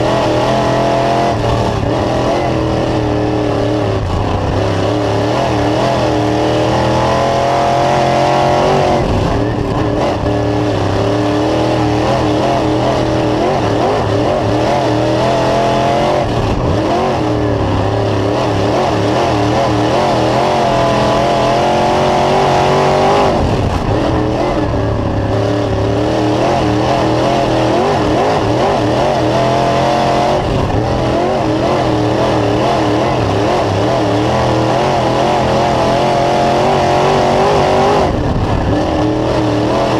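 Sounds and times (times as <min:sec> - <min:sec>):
racecar engine revving: 0:00.0 - 0:39.9.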